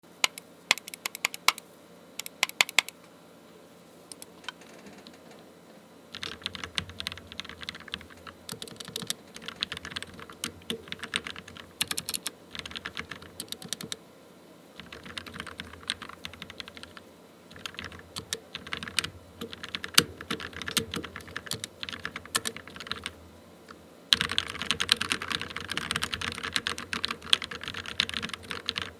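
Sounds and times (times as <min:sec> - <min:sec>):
typing on mechanical keyboard: 0:00.2 - 0:01.6, 0:02.2 - 0:02.9, 0:04.1 - 0:05.4, 0:06.1 - 0:14.0, 0:14.8 - 0:23.2, 0:24.1 - 0:28.9.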